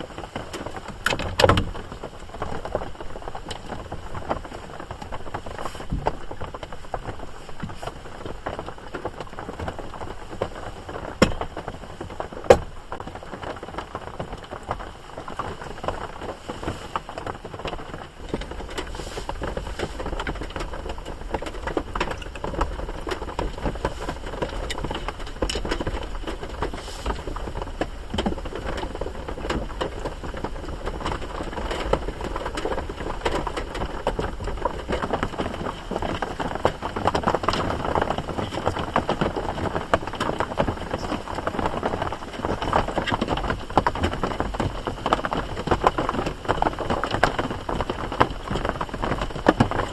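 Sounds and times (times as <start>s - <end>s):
rain drops tapping on a surface: 0.0s - 49.9s.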